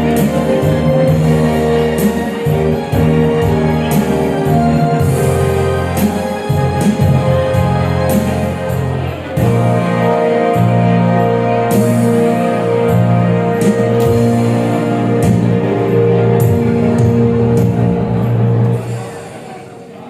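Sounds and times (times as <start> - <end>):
bass line: 0.0 - 19.0.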